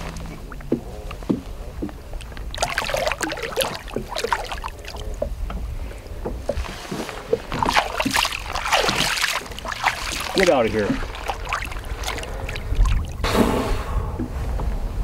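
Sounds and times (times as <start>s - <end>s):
fish splashing: 0.0s - 13.3s
water sloshing and splashing: 0.0s - 13.4s.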